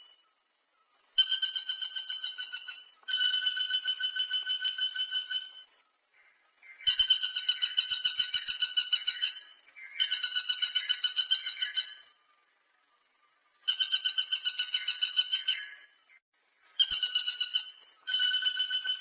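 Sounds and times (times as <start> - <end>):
woodpecker rattling call: 1.2 - 12.2, 13.6 - 16.2, 16.8 - 19.0.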